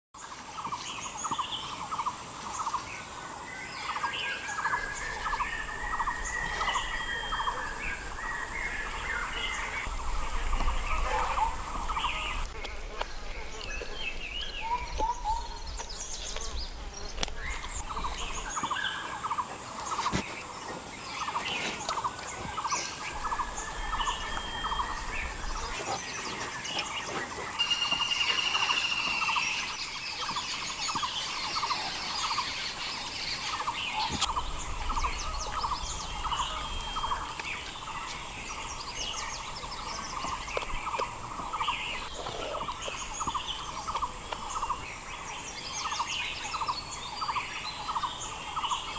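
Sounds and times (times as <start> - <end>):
birds chirping and calling: 0.3 - 48.9
high insect whine: 1.6 - 20.2, 21.1 - 48.9.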